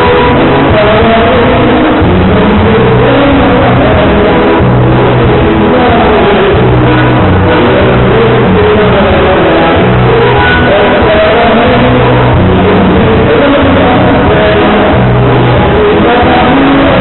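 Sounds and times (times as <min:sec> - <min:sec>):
bass line: 0:00.0 - 0:17.0
live dance-band music: 0:00.0 - 0:17.0.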